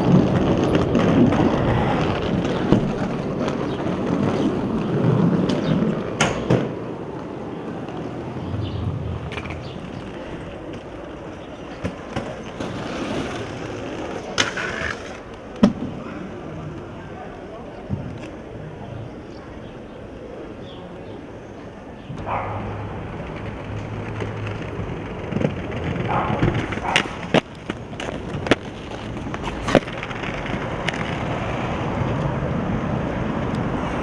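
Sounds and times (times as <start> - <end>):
skateboard wheels rolling on stone: 0.0 - 19.8, 21.9 - 34.0.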